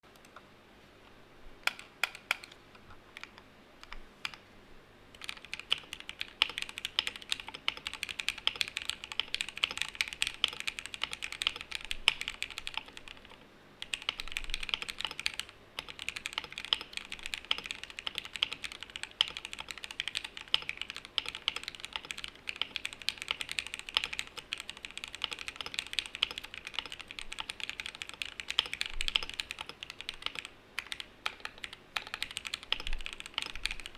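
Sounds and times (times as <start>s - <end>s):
typing on mechanical keyboard: 1.6s - 2.6s, 5.2s - 33.9s.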